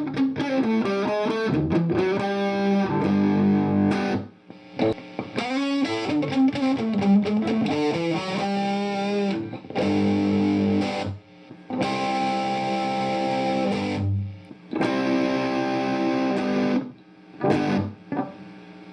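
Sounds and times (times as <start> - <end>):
electric guitar notes and chords: 0.0 - 18.5.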